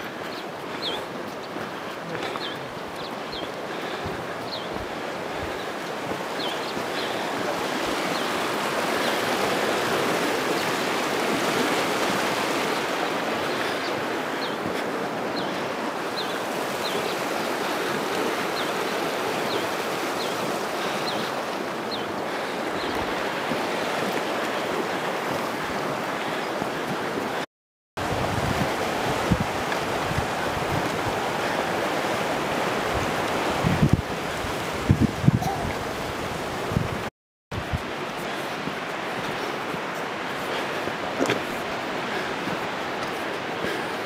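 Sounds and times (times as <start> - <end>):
river rushing: 0.0 - 44.0.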